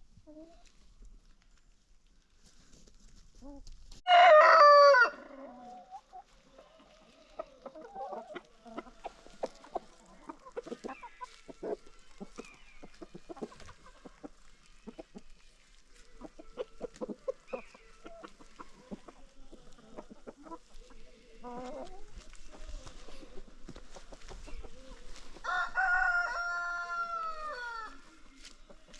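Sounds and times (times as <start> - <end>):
hens clucking softly: 5.1 - 28.9.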